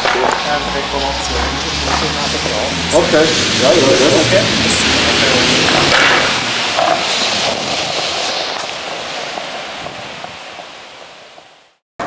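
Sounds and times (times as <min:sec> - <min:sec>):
wind on microphone: 0:00.0 - 0:11.5
skateboard wheels rolling on stone: 0:00.0 - 0:11.8.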